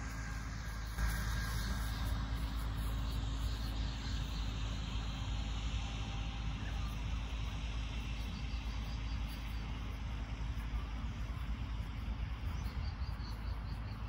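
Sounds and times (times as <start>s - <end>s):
insects chirping: 0.0s - 14.0s
low uneven rumble: 0.0s - 14.0s.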